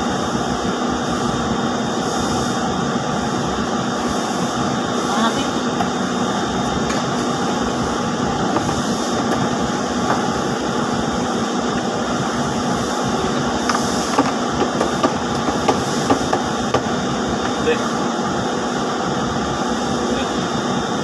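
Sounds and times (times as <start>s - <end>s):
spinning mill machinery din: 0.0s - 21.0s.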